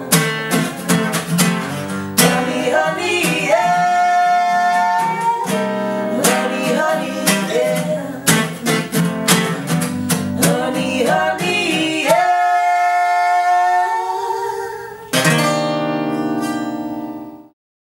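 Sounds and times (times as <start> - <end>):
acoustic guitar strumming: 0.0 - 17.5.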